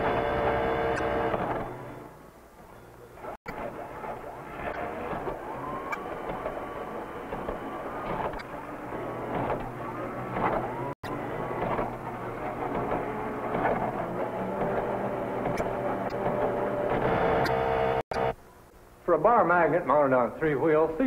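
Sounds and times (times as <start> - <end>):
drive motors whining: 0.0 - 18.4.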